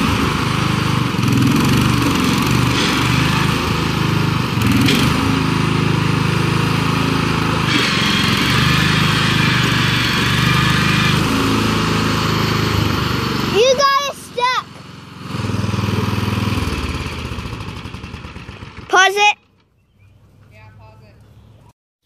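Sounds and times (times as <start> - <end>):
lawn tractor engine running: 0.0 - 20.8.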